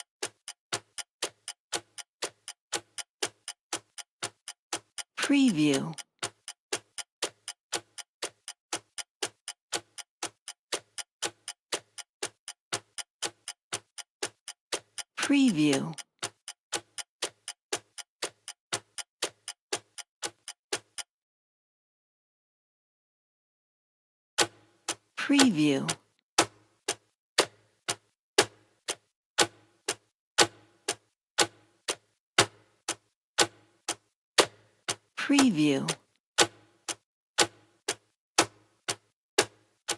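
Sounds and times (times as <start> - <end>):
clock ticking: 0.0 - 21.1, 24.4 - 39.9.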